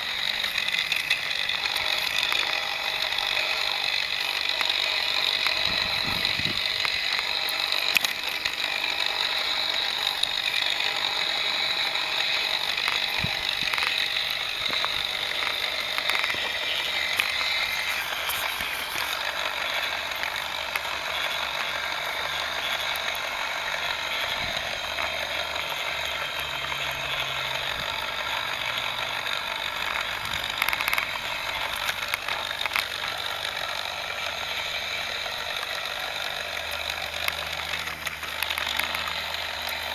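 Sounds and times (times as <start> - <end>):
scattered clicks: 0.0 - 39.9
toy electric motor whirring: 0.0 - 39.9.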